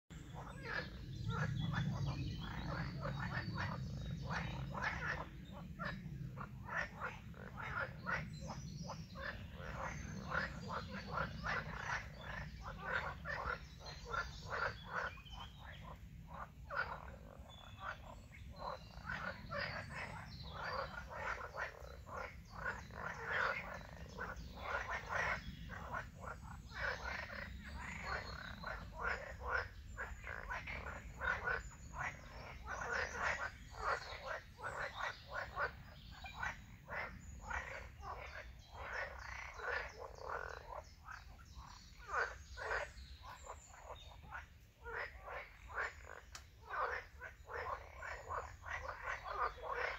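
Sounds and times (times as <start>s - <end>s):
frogs croaking: 0.1s - 49.9s.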